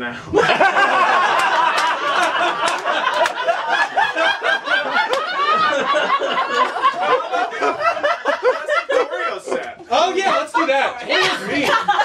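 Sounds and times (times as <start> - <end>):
audience laughing: 0.3 - 12.0.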